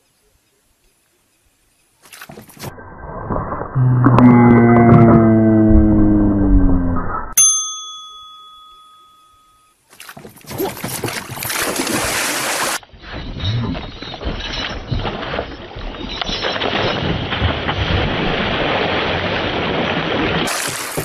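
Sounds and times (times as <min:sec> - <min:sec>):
water noise: 0:00.9 - 0:09.2, 0:09.8 - 0:21.0.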